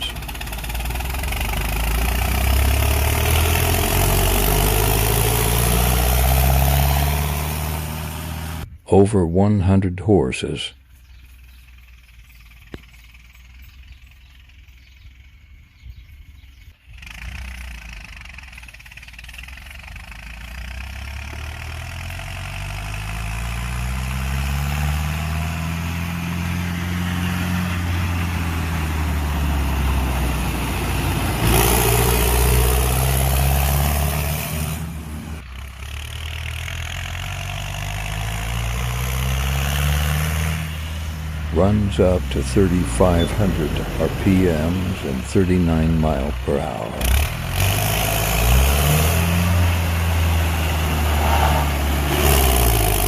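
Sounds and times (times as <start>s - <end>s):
tractor diesel engine labouring: 0.0s - 53.0s.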